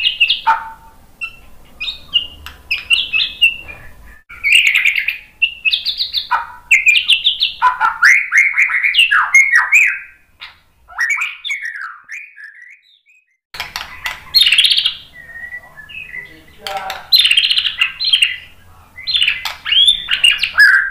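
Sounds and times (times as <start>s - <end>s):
bird singing whistled phrases: 0.0s - 0.6s, 1.2s - 20.9s
harsh clicking bird notes: 0.0s - 12.8s, 13.6s - 20.9s.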